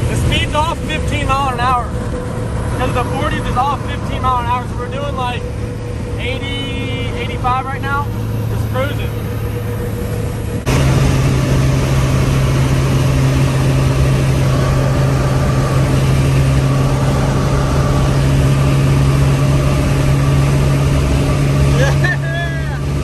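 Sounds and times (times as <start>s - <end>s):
pickup engine droning: 0.0s - 23.0s
wind and road noise: 0.0s - 23.0s.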